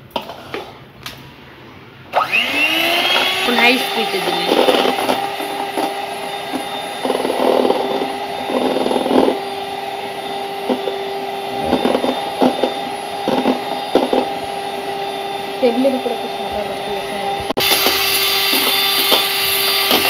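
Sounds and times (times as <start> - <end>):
electric mixer motor whine: 2.1 - 20.0.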